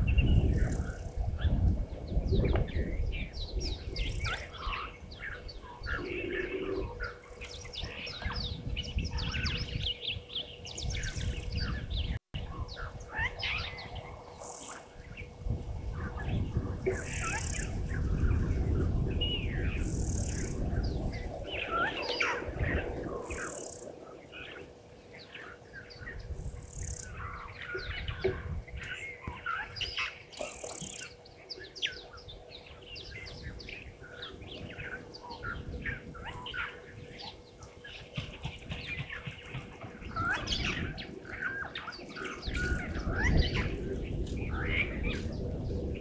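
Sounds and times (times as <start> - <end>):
many birds chirping and calling: 0.0 - 46.0
wind rumbling on microphone: 0.0 - 46.0.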